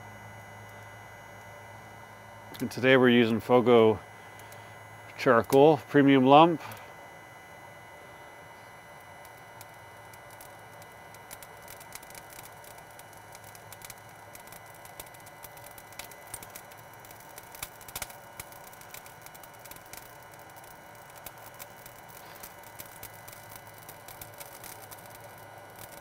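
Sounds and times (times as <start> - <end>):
charcoal crackling and popping: 0.0 - 26.0
faint steady hum: 0.0 - 26.0.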